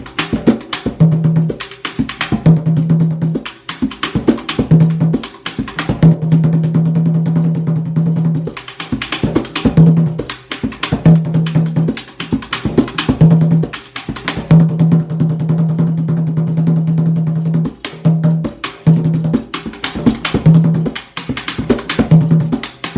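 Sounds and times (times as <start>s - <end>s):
samba percussion: 0.0s - 22.9s.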